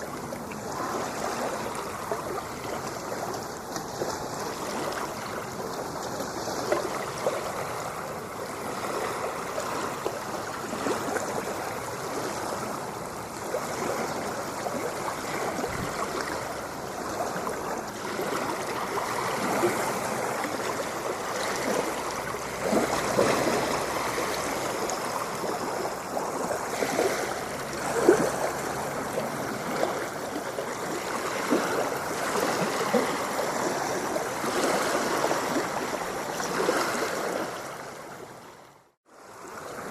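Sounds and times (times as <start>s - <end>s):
ocean water lapping: 0.0s - 39.9s
small water splashes: 0.0s - 39.9s.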